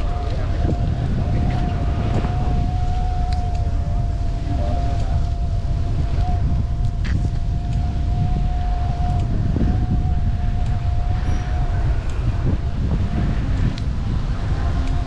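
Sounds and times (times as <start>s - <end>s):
steady high-pitched tone: 0.0s - 15.0s
wind buffeting microphone: 0.0s - 15.0s.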